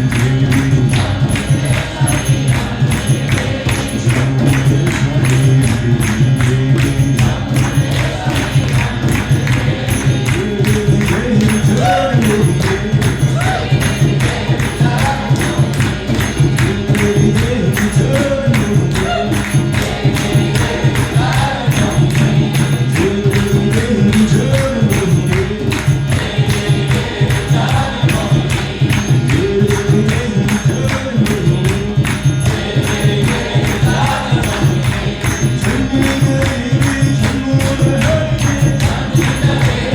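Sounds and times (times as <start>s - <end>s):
jingling hand percussion: 0.0s - 39.9s
voices chanting: 0.0s - 39.9s.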